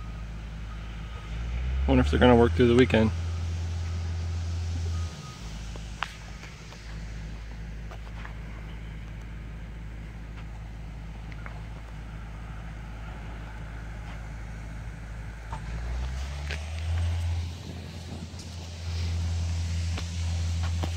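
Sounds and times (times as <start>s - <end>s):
construction machinery engines humming: 0.0s - 20.9s.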